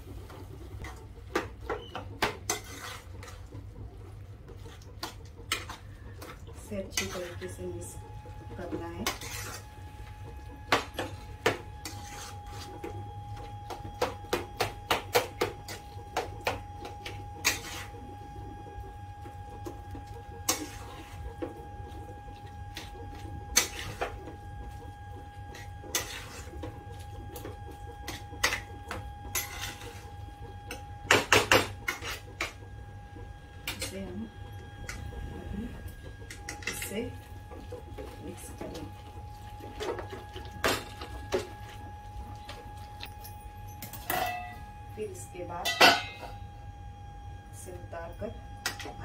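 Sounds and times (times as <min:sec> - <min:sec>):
low hum: 0:00.0 - 0:49.0.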